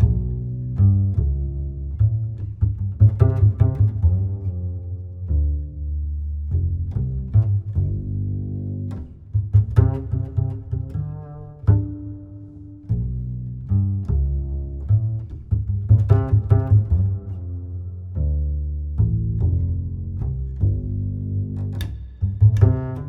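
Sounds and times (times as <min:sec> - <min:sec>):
plucked bass line: 0:00.0 - 0:23.0.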